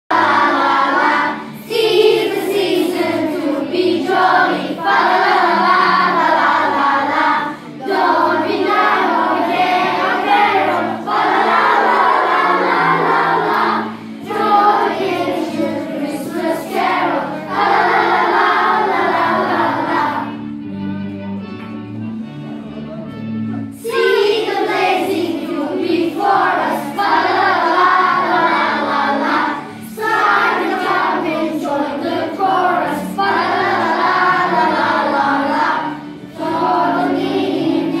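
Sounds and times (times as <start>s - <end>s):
children singing in unison: 0.1s - 20.6s, 23.8s - 38.0s.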